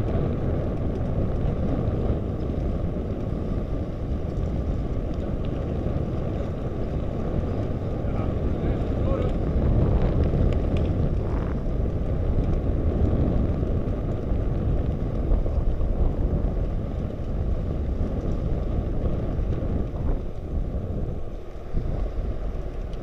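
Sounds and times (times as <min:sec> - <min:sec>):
bicycle road noise: 0:00.0 - 0:23.0
wind buffeting microphone: 0:00.0 - 0:23.0.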